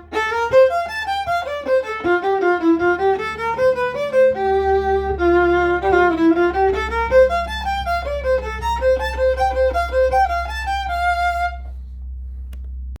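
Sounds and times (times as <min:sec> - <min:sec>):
solo fiddle playing a reel: 0:00.0 - 0:11.8
steady low hum: 0:00.0 - 0:13.0.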